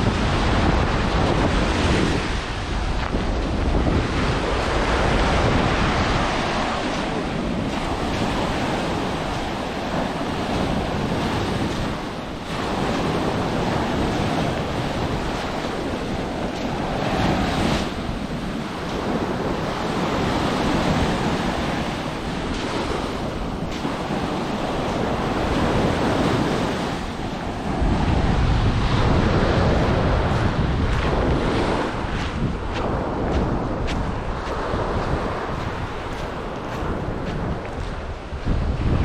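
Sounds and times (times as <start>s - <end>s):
surf breaking on beach: 0.0s - 39.0s
wind buffeting microphone: 0.0s - 39.0s.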